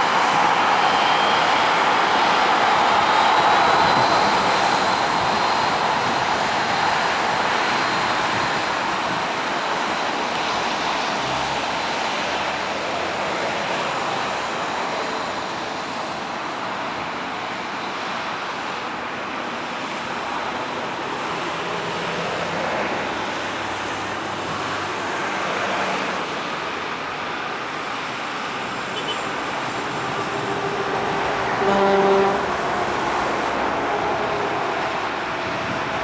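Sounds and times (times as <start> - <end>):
jet engines rushing: 0.0 - 36.0.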